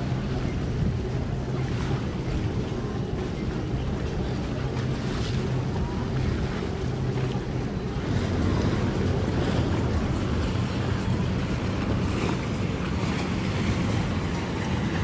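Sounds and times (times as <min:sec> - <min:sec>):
outboard motor droning: 0:00.0 - 0:15.0
water rushing along hull: 0:00.0 - 0:15.0
wind on microphone: 0:00.0 - 0:15.0.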